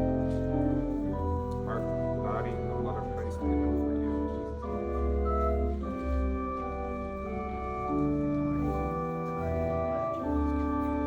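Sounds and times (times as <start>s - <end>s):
organ playing slow chords: 0.0s - 11.0s.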